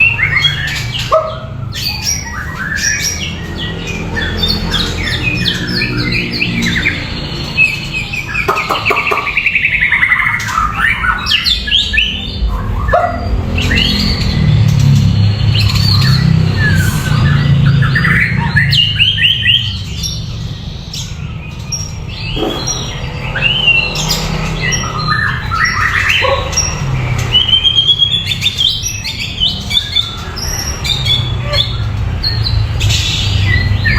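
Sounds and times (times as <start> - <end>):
bird singing: 0.0 - 33.9.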